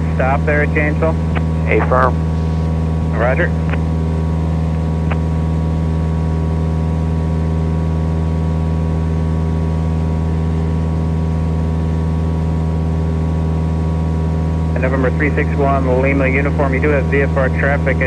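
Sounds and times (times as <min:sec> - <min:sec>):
plane engine and propeller droning: 0:00.0 - 0:18.0.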